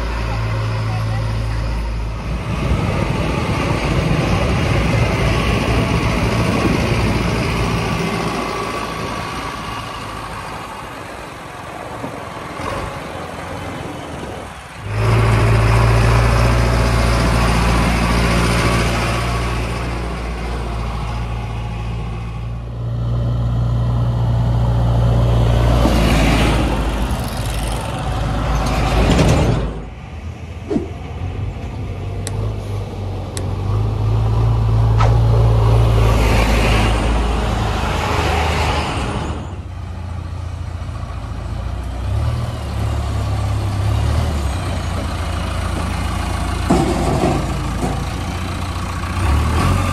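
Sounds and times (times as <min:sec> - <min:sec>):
backhoe loader diesel engine: 0:00.0 - 0:49.9
truck engine: 0:00.0 - 0:49.9.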